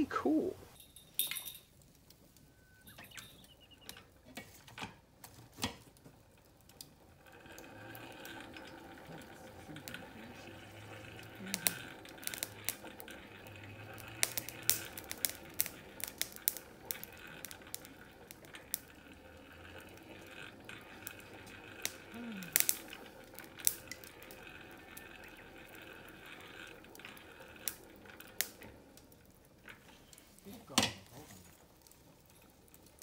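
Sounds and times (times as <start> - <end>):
charcoal fire crackling and popping: 0.0 - 33.0
hand-cranked blower whirring: 3.0 - 33.0.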